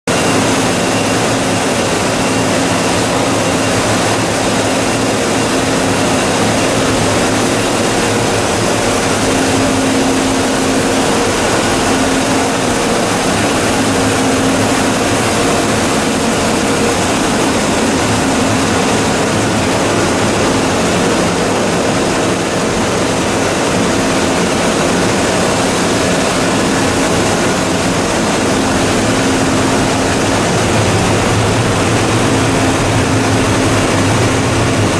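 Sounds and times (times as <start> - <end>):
recycling machine droning: 0.1 - 34.9.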